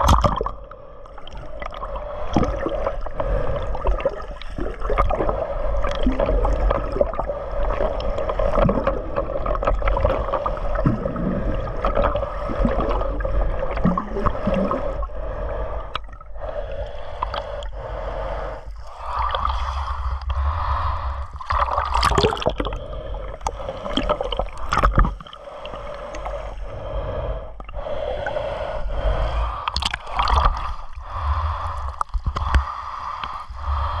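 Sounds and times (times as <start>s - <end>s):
muffled water sloshing and gurgling: 0.0s - 34.0s
steady hum: 5.2s - 34.0s.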